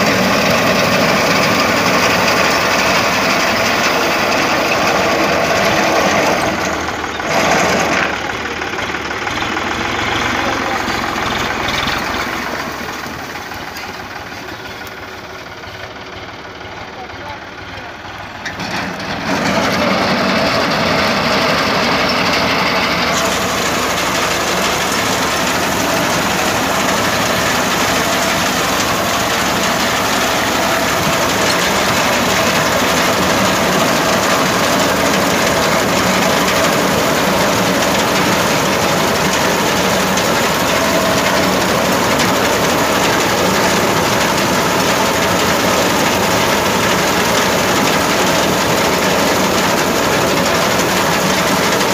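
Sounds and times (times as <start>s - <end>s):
reaper cutting wheat: 0.0s - 8.3s, 18.5s - 51.9s
tractor diesel engine under load: 0.0s - 51.9s.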